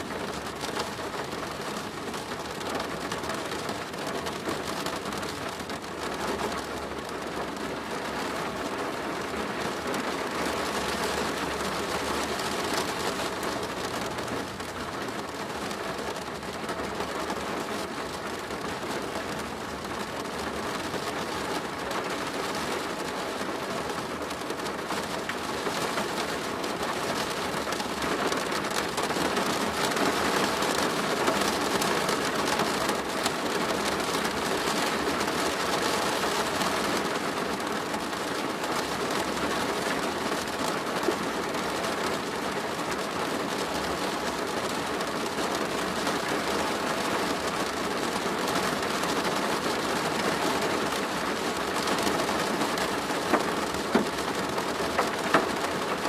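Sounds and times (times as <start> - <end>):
rain on a plastic roof: 0.0 - 56.0.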